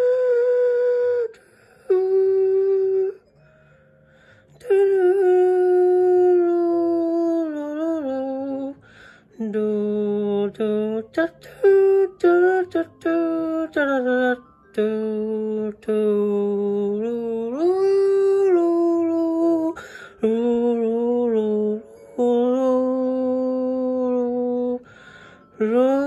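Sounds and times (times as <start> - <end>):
person singing wordless tune: 0.0 - 26.0.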